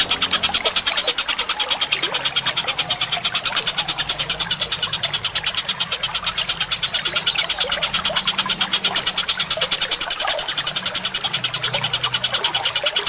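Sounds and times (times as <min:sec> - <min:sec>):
rapid bird chatter: 0:00.0 - 0:13.0.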